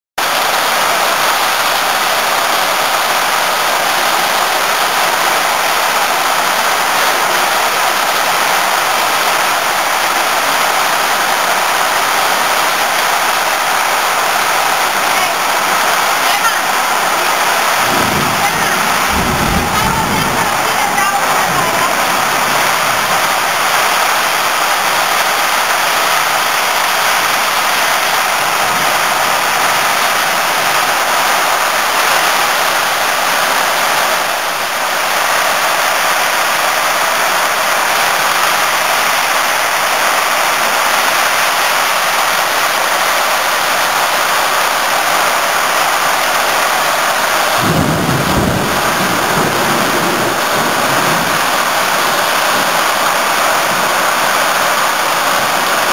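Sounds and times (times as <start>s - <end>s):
heavy rain pouring: 0.2s - 55.9s
wind thrashing trees: 0.2s - 55.9s.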